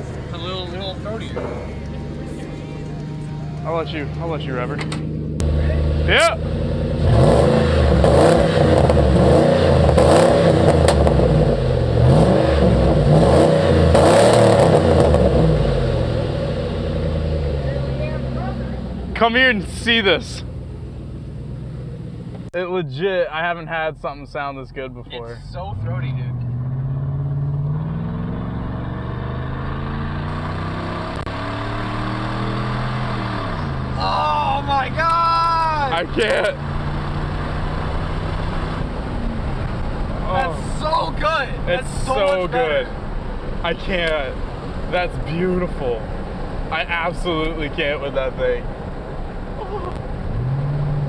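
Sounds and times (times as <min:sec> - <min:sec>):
truck engine revving: 0:00.0 - 0:24.1, 0:25.7 - 0:51.0.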